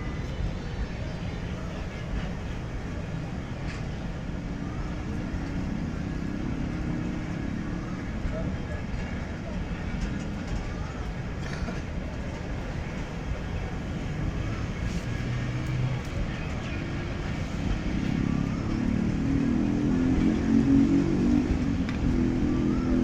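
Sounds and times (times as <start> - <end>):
passenger train rumbling past: 0.0 - 23.0.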